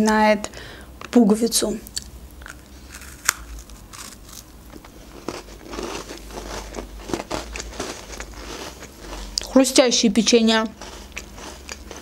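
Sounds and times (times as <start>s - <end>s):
crunchy cookie chewing: 2.0s - 12.0s.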